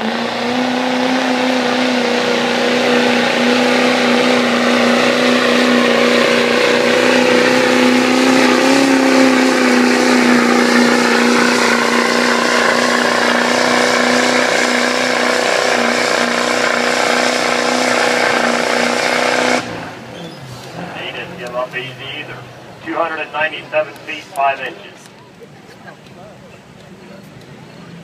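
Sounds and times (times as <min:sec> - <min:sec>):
diesel truck engine at high revs: 0:00.0 - 0:25.2.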